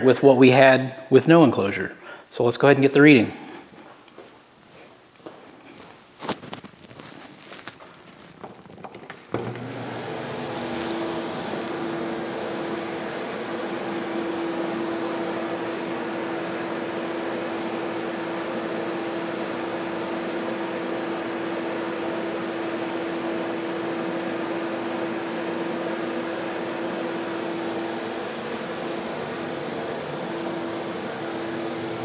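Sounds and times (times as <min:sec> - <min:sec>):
muffled shop vac running: 0:03.7 - 0:32.0.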